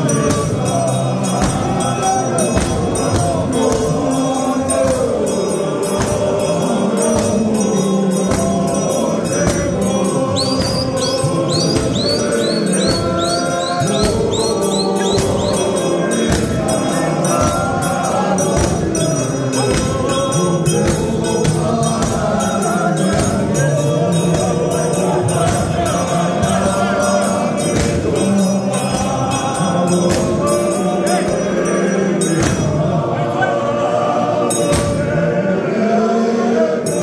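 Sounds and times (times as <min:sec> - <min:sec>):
men singing gospel unaccompanied: 0:00.0 - 0:37.0.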